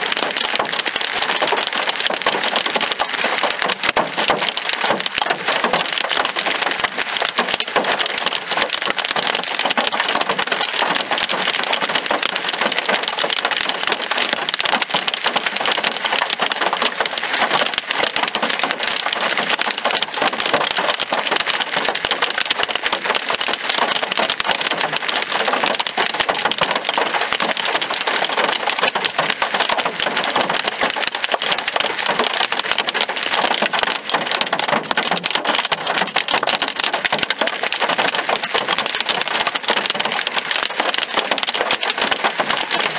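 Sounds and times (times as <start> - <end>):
hailstones clattering: 0.0 - 42.9.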